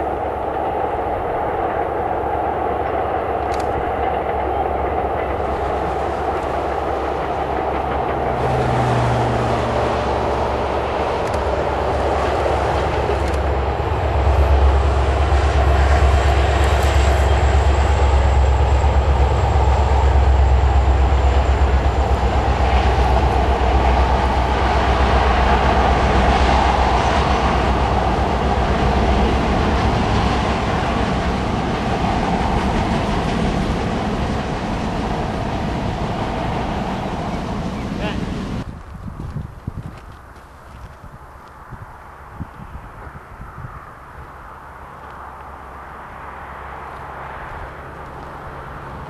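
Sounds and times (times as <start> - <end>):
diesel locomotive engines droning: 0.0 - 39.0, 39.6 - 49.0
train wheels clattering on rails: 0.0 - 41.1.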